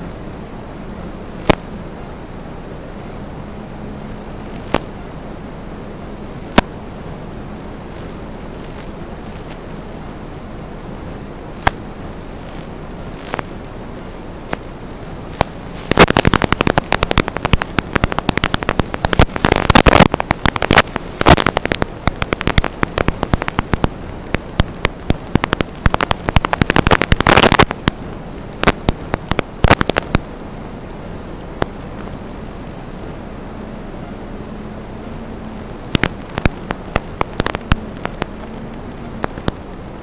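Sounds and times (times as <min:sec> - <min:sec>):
static hiss: 0:00.0 - 0:40.0
loud crackling and popping: 0:01.2 - 0:01.7, 0:04.1 - 0:05.1, 0:06.2 - 0:40.0.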